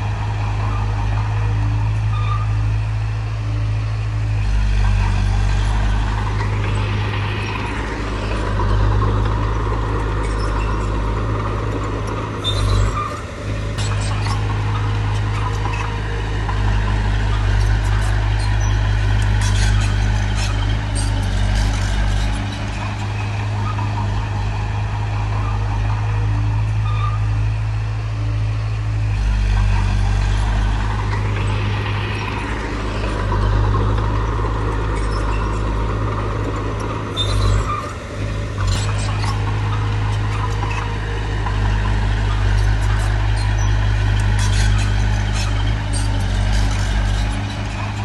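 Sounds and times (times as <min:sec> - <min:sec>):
heavy diesel machinery engine: 0:00.0 - 0:48.0.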